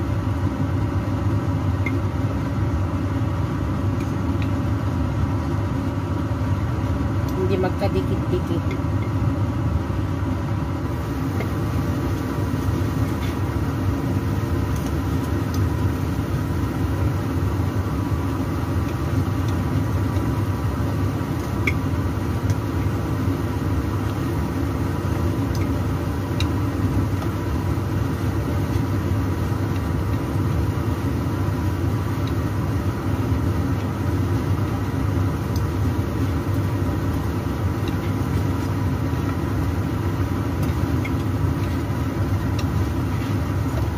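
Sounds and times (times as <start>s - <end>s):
steady low motor hum: 0.0s - 43.9s.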